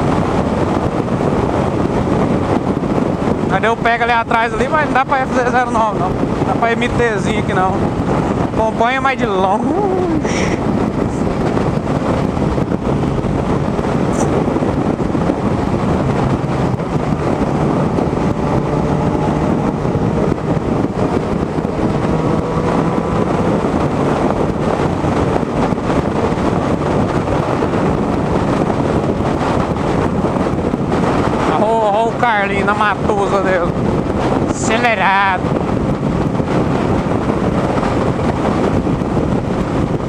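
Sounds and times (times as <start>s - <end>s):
motorcycle engine drone: 0.0s - 40.0s
wind rushing over microphone: 0.0s - 40.0s.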